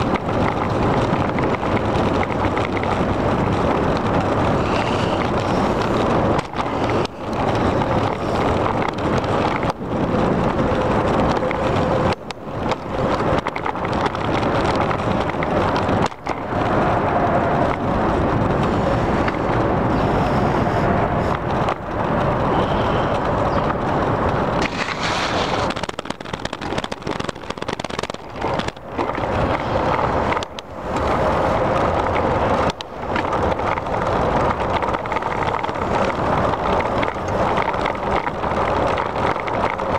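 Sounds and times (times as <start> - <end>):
bicycle tyre and rattle noise: 0.0 - 39.9
wind on microphone: 0.0 - 39.9.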